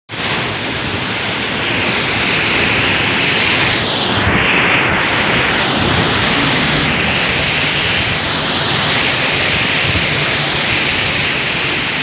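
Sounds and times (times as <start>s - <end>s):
rain: 0.1s - 12.0s
wind: 0.1s - 12.0s.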